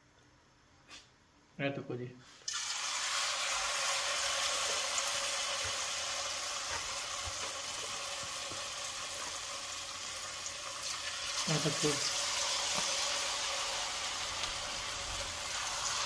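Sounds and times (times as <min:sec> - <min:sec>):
batter frying in hot oil: 0:02.5 - 0:16.0.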